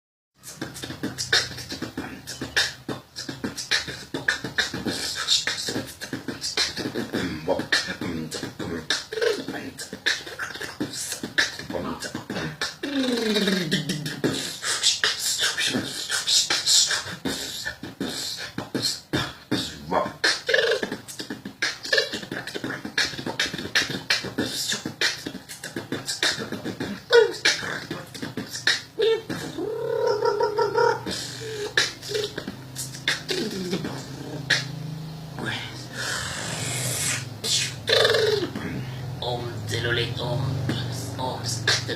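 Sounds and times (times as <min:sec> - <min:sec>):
beatboxing drum hits and clicks: 0:00.4 - 0:34.8, 0:35.4 - 0:38.8, 0:40.5 - 0:41.9
falling vocal sweep: 0:00.4 - 0:41.9
held vocal tone: 0:00.4 - 0:41.9.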